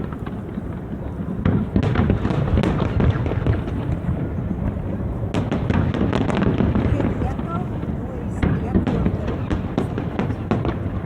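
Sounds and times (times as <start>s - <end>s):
rumble of firework bursts: 0.0s - 11.0s
sharp firework cracks: 0.0s - 11.0s.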